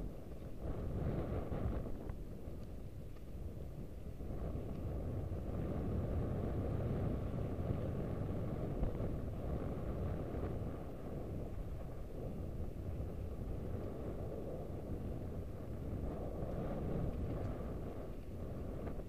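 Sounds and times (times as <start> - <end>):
bike rolling on trail: 0.0 - 19.0
wind buffeting microphone: 0.0 - 19.0.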